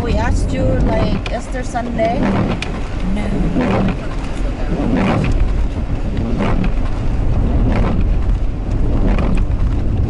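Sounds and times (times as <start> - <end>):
car road and engine rumble: 0.0 - 10.0
windshield wipers sweeping: 0.0 - 10.0.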